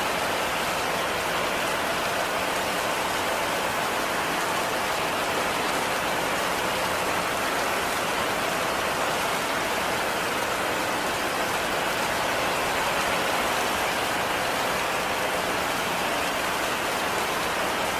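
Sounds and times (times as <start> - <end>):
heavy rain: 0.0 - 17.9.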